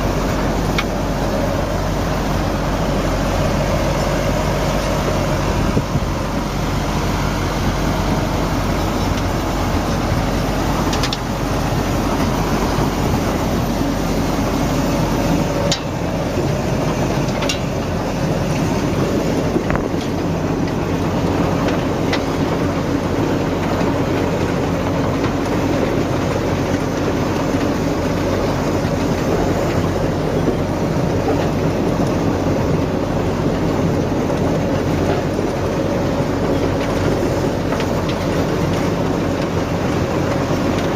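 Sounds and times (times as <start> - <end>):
large engine running: 0.0 - 40.9.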